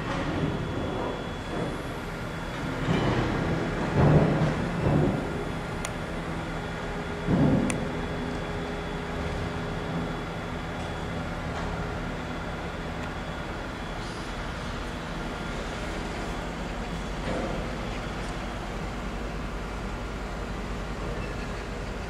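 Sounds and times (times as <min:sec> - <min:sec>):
low mechanical hum: 0:00.0 - 0:22.0
outdoor background noise: 0:00.0 - 0:22.0.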